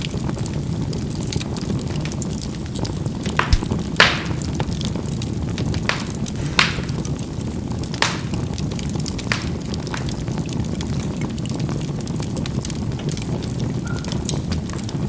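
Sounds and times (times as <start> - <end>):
charcoal crackling and popping: 0.0 - 15.0
charcoal fire rushing: 0.0 - 15.0.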